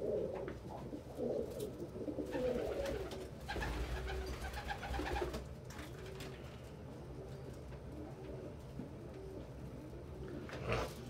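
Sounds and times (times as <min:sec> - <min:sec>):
pigeons cooing: 0:00.0 - 0:05.4, 0:06.0 - 0:11.0.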